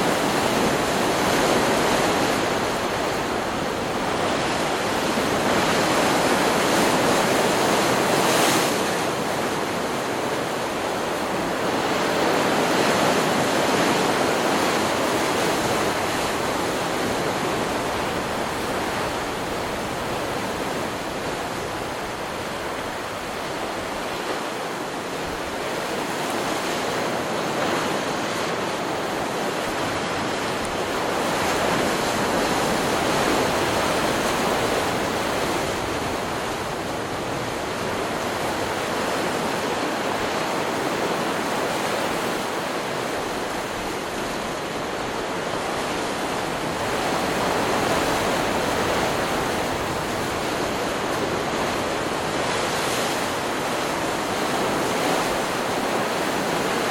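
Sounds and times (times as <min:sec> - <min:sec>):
ocean waves breaking: 0:00.0 - 0:56.9.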